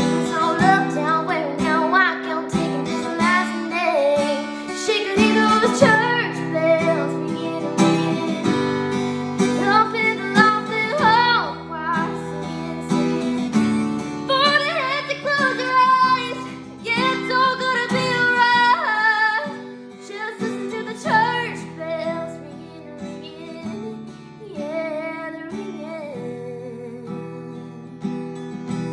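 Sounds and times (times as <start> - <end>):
strummed acoustic guitar: 0.0 - 28.9
woman singing: 0.0 - 28.9.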